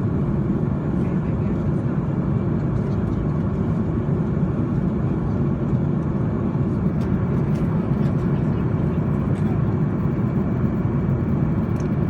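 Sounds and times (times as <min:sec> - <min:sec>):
jet engines and rushing air in cabin: 0:00.0 - 0:12.0.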